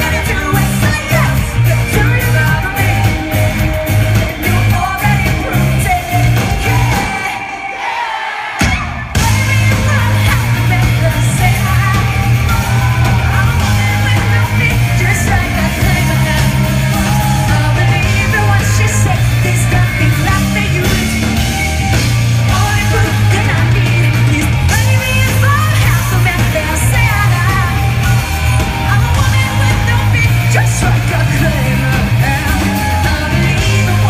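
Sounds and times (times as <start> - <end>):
live rock band playing: 0.0 - 34.0
woman singing lead vocal: 0.0 - 34.0.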